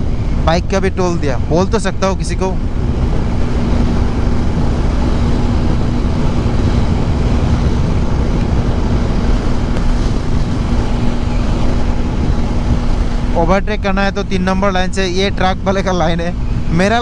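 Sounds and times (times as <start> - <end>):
motorcycle engine drone: 0.0 - 17.0
wind buffeting microphone: 0.0 - 17.0.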